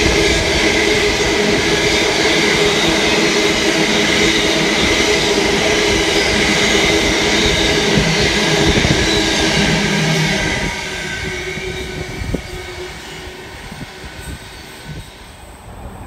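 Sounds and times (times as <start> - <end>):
train wheel squeal: 0.0 - 16.0
train wheels rumbling: 0.0 - 16.0.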